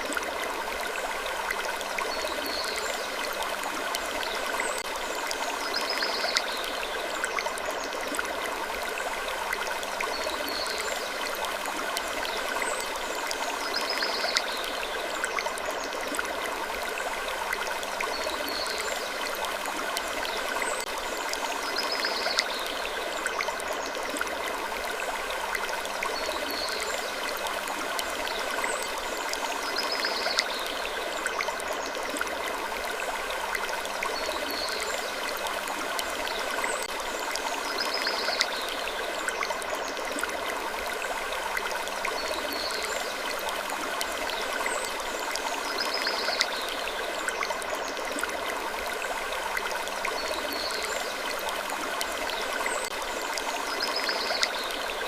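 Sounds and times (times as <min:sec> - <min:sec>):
rushing stream-like noise: 0:00.0 - 0:55.0.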